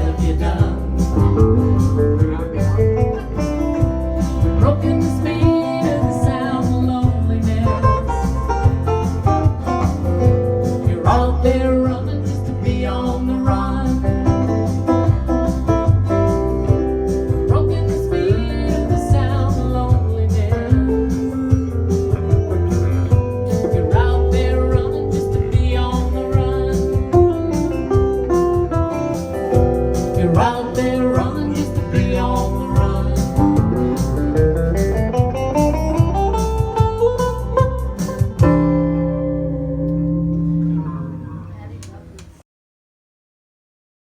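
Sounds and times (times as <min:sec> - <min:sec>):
guitar playing: 0:00.0 - 0:42.1
bass and drums: 0:00.0 - 0:42.4.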